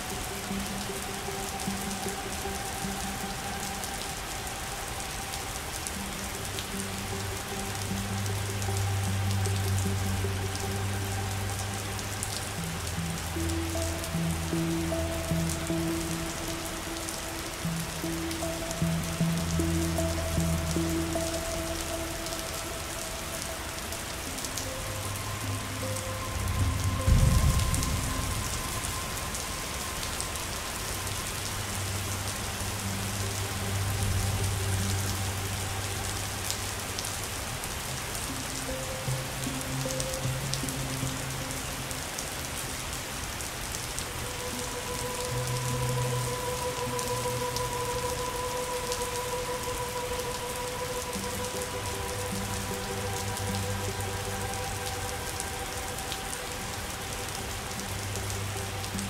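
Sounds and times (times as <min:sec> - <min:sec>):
heavy rain pattering: 0:00.0 - 0:59.0
soft music of held notes: 0:00.0 - 0:59.0.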